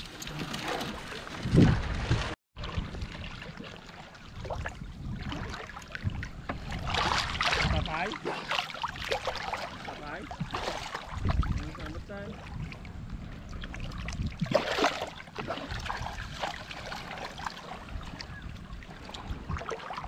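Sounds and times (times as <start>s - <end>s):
wind buffeting microphone: 0.0s - 3.2s, 4.3s - 20.0s
water splashing around boat: 0.0s - 20.0s.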